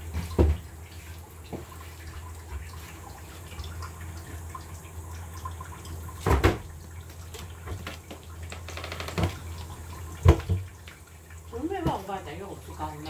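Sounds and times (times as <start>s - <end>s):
water being handled: 0.0s - 13.0s.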